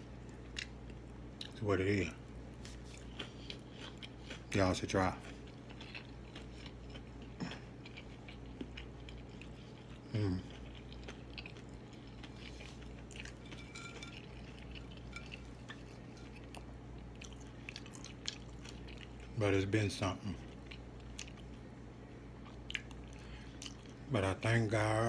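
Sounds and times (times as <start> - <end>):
close-up chewing: 2.3 - 19.4, 20.4 - 21.7, 22.4 - 24.1.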